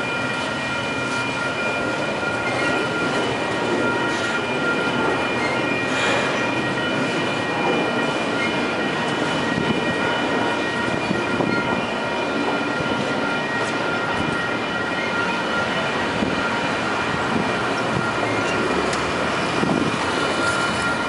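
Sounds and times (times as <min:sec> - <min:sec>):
high-pitched ringing tone: 0:00.0 - 0:21.0
train wheels rumbling on rails: 0:00.0 - 0:21.0.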